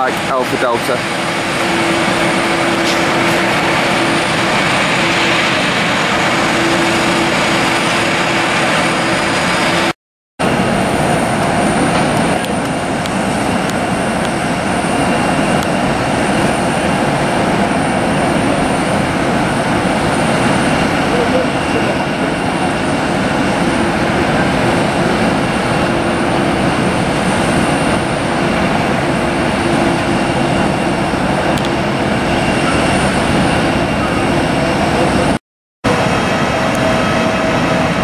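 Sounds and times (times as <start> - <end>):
jet engines taxiing: 0.0 - 38.0.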